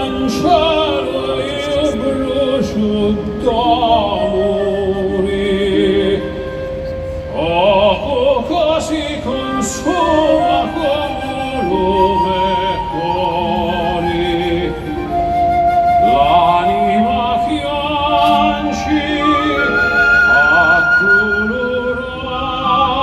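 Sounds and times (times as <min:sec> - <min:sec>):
slow melancholy orchestral music: 0:00.0 - 0:23.0.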